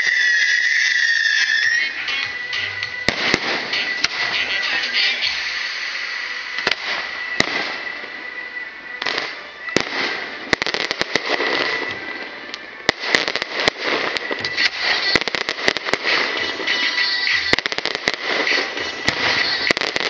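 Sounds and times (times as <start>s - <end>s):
fireworks bangs: 0.0s - 20.0s
continuous hiss: 2.0s - 20.0s.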